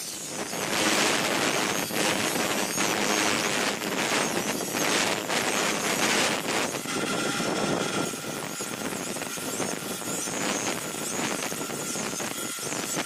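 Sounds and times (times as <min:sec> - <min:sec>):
knife blade grinding on wheel: 0:00.0 - 0:13.0
machine high whine: 0:00.0 - 0:13.0.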